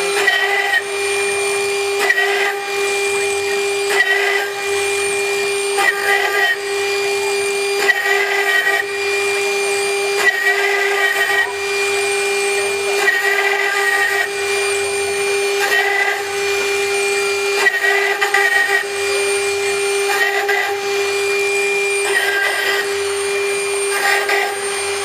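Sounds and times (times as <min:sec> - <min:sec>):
router cutting stone: 0:00.0 - 0:25.0.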